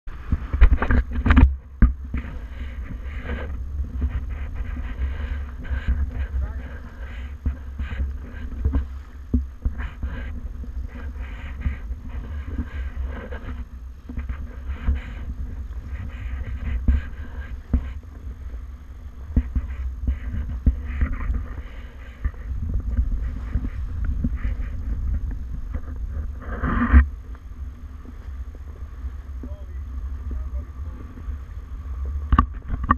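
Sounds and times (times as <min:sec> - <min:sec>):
water rushing along hulls: 0:00.1 - 0:32.9
wind buffeting microphone: 0:00.1 - 0:32.9.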